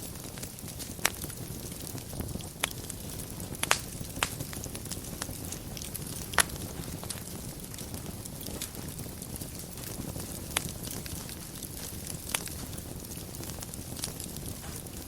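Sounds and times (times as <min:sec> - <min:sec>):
fire crackling and popping: 0:00.0 - 0:15.0
low rumble of fire flames: 0:00.0 - 0:15.0.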